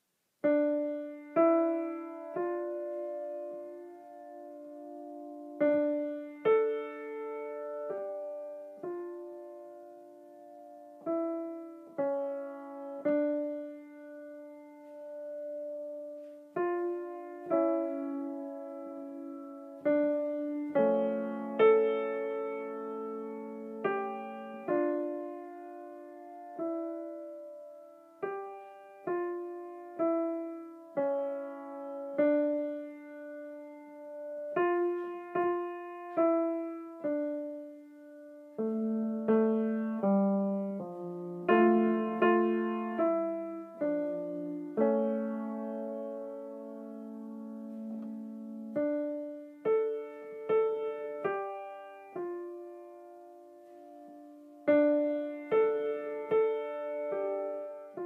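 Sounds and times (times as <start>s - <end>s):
slow solo piano: 0.0s - 58.0s.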